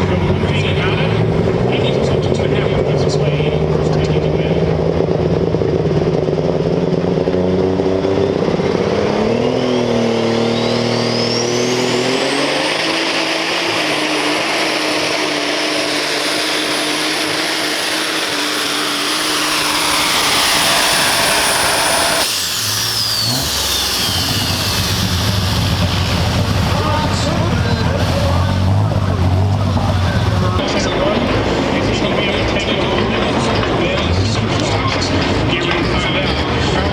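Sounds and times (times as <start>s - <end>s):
diesel tractor engine revving: 0.0s - 36.9s
turbocharger whine: 0.0s - 36.9s.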